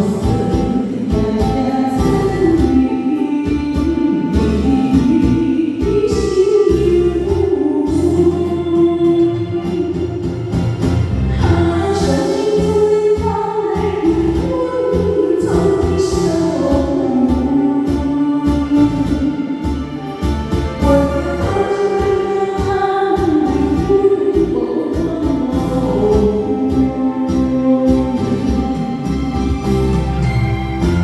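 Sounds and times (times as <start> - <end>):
person singing: 0.0 - 10.4, 11.3 - 31.0
backing band with steady beat: 0.0 - 31.0.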